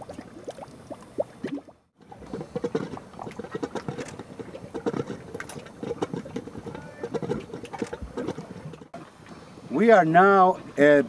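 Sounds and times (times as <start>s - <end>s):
mud vent gurgling and popping: 0.0s - 11.0s.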